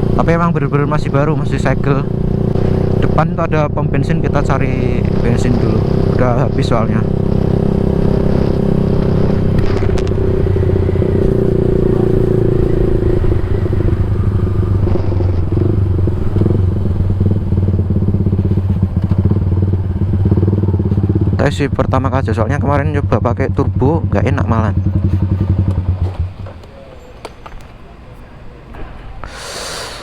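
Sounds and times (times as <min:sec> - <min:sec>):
motorcycle exhaust note: 0:00.0 - 0:27.1.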